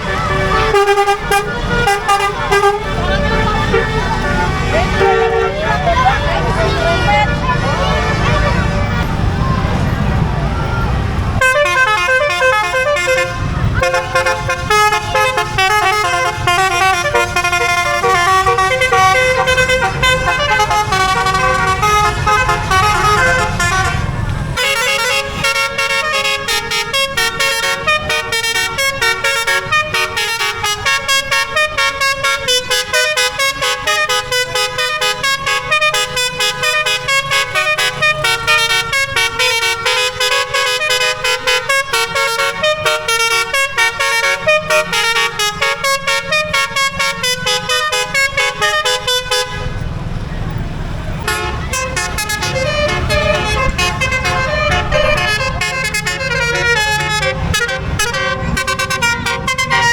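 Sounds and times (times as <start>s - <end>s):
low engine rumble: 0.0s - 59.9s
multi-tone bus horn melody: 0.0s - 59.9s.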